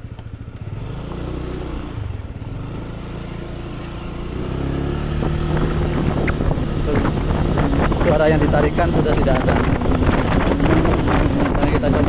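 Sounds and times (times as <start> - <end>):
scooter engine accelerating: 0.0 - 12.0.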